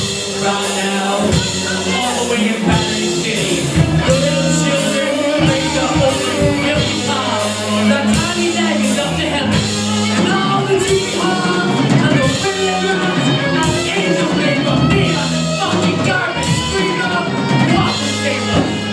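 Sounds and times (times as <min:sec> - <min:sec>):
bass guitar: 0:00.0 - 0:18.9
drum kit beat: 0:00.0 - 0:18.9
electric guitars: 0:00.0 - 0:18.9
man singing lead vocal: 0:00.0 - 0:18.9.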